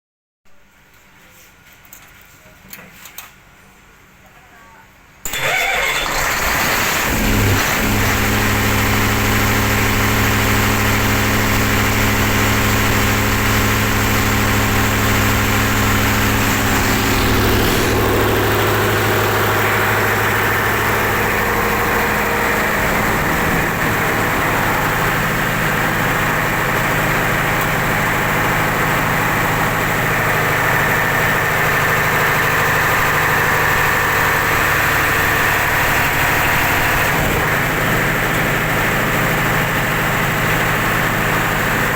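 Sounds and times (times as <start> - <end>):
diesel engine running: 5.3 - 41.9.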